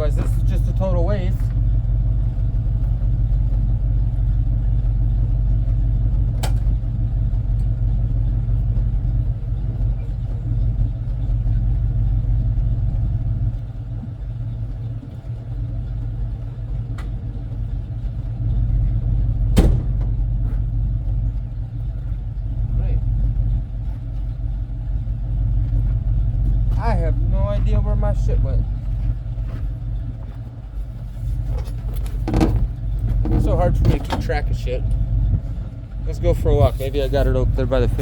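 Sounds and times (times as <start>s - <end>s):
truck engine idling: 0.0s - 38.0s.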